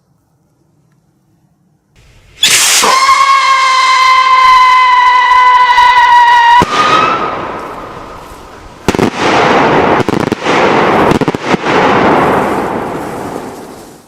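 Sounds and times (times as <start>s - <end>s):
crackling firework hiss: 2.0s - 14.0s
firework bursts: 2.0s - 14.0s
firework whistling: 2.0s - 14.0s.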